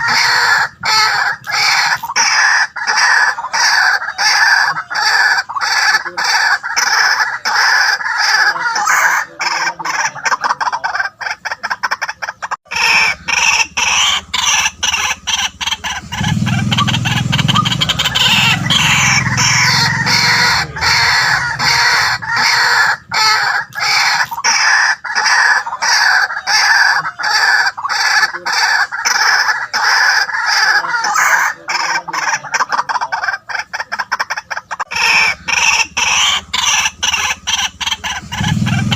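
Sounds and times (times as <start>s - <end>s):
bird calling rapid notes: 0.0s - 38.9s.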